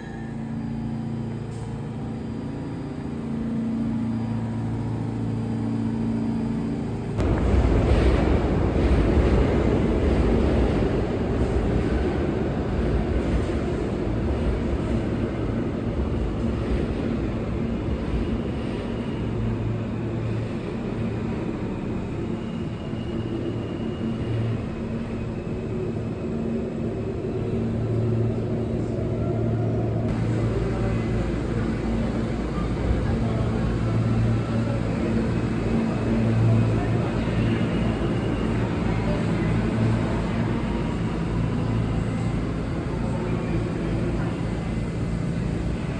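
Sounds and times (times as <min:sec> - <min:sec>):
subway train rumble: 0:00.0 - 0:45.9.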